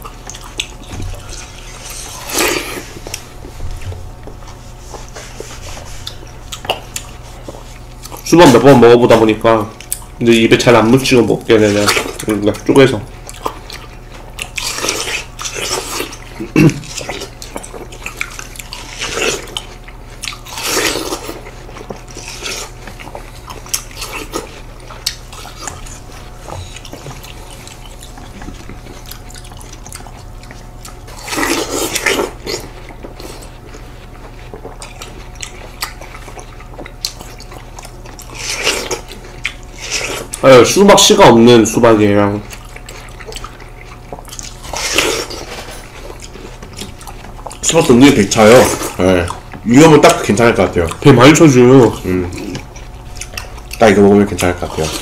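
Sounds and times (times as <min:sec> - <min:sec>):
watermelon being chewed: 0:00.0 - 0:55.0.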